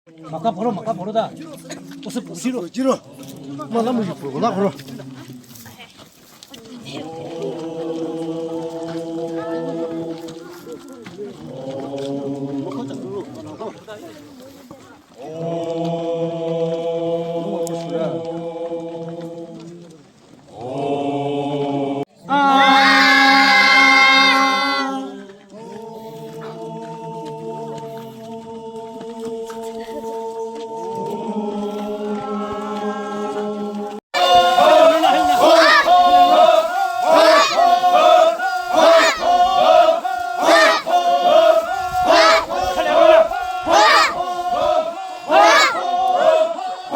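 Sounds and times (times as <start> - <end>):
men chanting in unison: 0.1 - 5.8, 6.7 - 13.9, 15.2 - 46.9.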